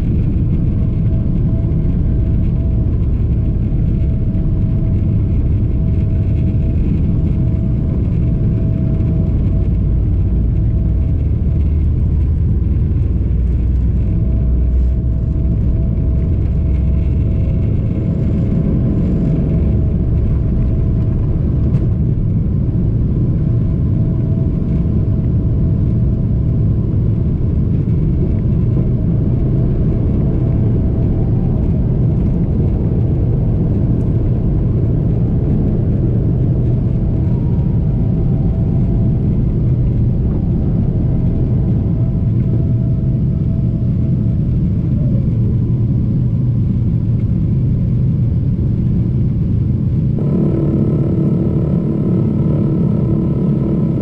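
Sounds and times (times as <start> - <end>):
jet engines at takeoff thrust: 0.0 - 54.0
runway rumble: 0.0 - 54.0
thin steady whine: 0.0 - 54.0.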